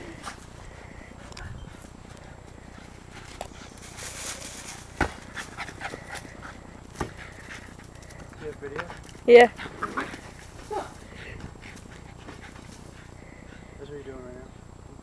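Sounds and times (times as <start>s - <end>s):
dog noises: 0.0s - 14.6s.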